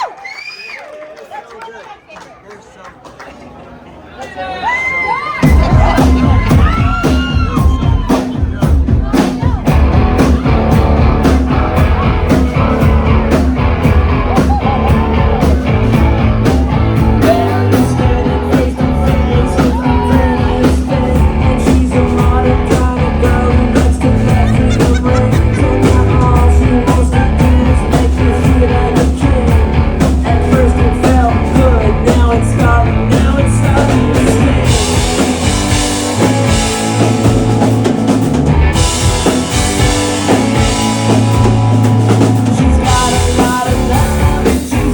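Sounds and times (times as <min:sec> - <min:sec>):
rock band playing live: 0:05.4 - 0:44.9.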